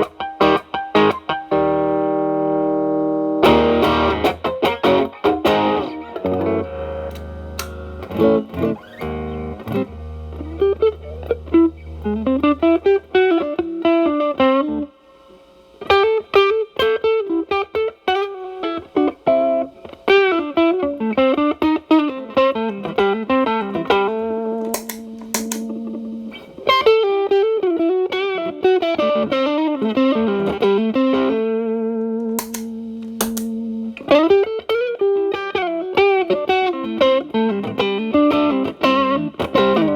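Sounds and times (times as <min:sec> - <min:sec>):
electric guitar with light crunch: 0:00.0 - 0:39.9.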